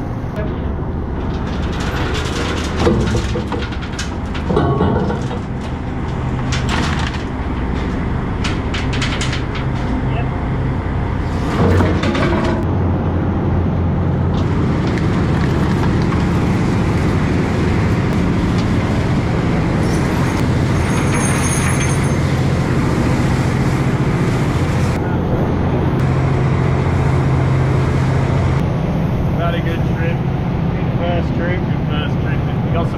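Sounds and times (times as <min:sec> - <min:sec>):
boat engine droning: 0:00.0 - 0:32.9.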